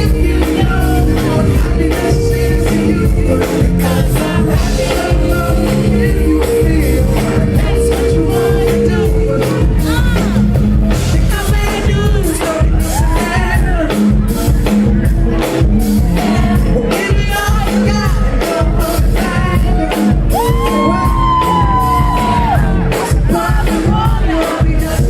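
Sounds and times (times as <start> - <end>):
live pop-soul song with singing: 0.0 - 25.0.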